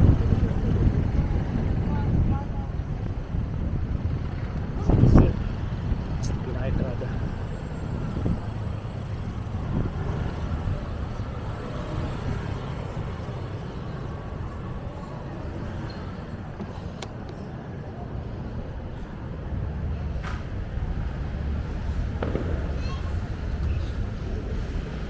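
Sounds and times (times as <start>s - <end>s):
city traffic rumble: 0.0s - 25.0s.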